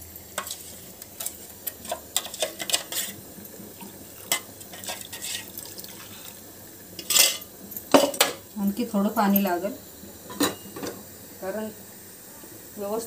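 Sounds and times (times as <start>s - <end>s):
water trickling into pot: 0.0s - 13.0s.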